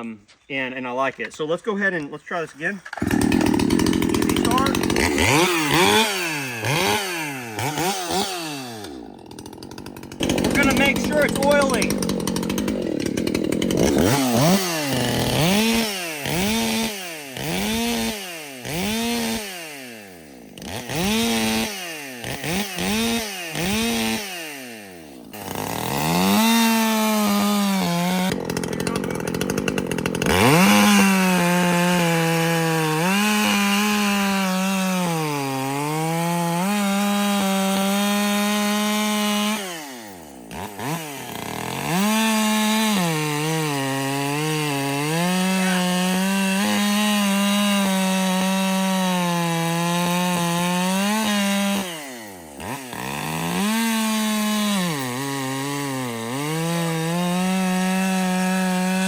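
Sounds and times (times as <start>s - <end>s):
chainsaw revving and cutting log: 2.6s - 59.0s.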